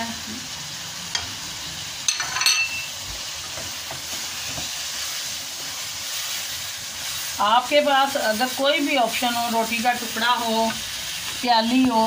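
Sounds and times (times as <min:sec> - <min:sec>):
curry sizzling in a wok: 0:00.0 - 0:12.0.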